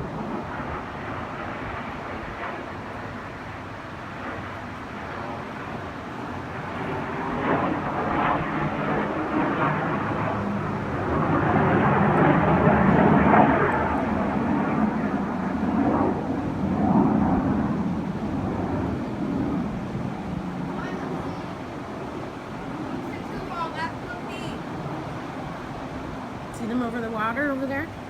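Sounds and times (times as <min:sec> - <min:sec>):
jets flying over: 0:00.0 - 0:28.0.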